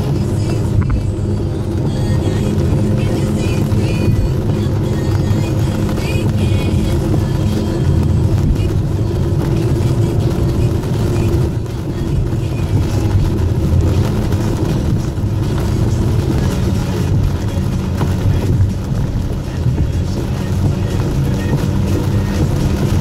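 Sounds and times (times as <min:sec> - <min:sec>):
car road noise on wet road: 0:00.0 - 0:23.0.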